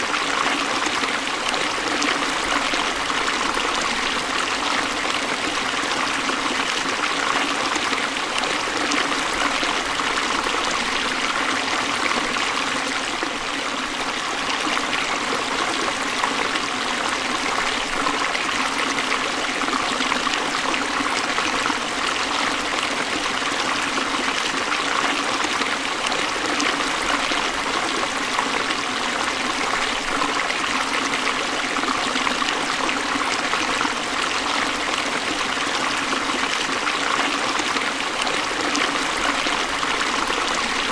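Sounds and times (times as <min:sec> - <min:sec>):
forest stream flowing: 0:00.0 - 0:40.9.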